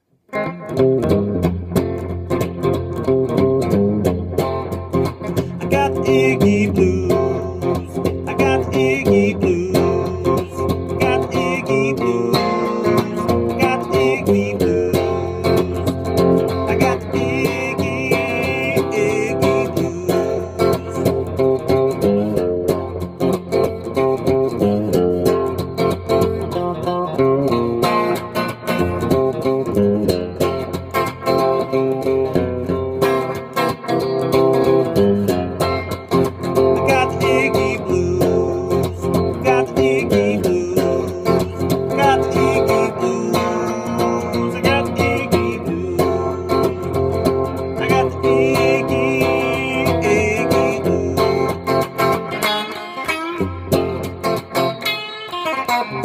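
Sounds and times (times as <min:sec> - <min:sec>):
electric guitar blues: 0:00.0 - 0:56.0.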